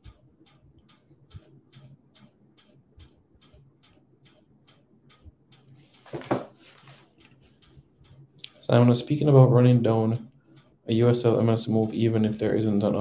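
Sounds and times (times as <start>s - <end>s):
faint regular ticking: 0.0s - 13.0s.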